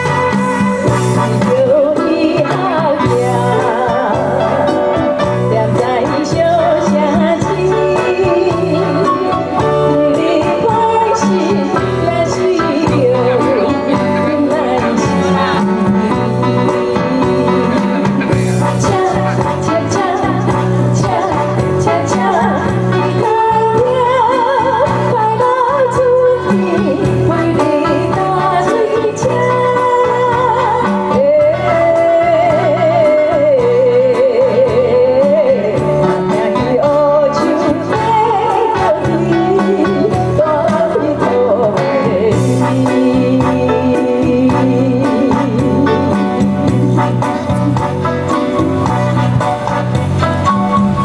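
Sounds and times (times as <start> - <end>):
electronic keyboard with beat: 0.0 - 51.0
woman singing with vibrato: 0.0 - 51.0.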